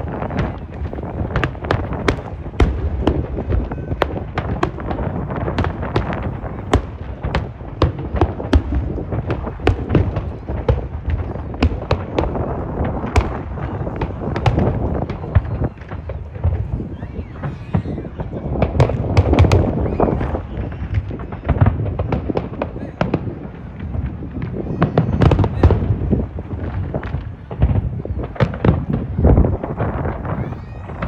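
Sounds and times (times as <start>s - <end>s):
fireworks cracking and banging: 0.0s - 31.0s.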